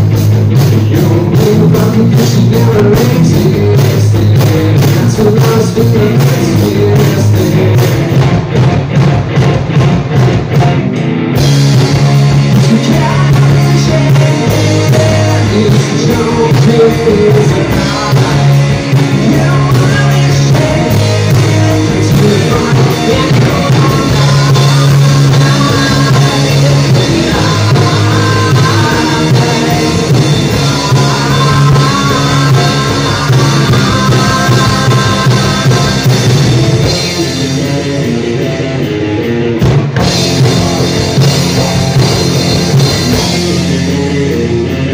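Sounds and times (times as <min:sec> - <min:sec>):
bass: 0:00.0 - 0:44.9
distorted electric guitars: 0:00.0 - 0:44.9
drum kit: 0:00.0 - 0:44.9
person singing: 0:00.7 - 0:08.0, 0:12.0 - 0:39.3, 0:40.0 - 0:44.9.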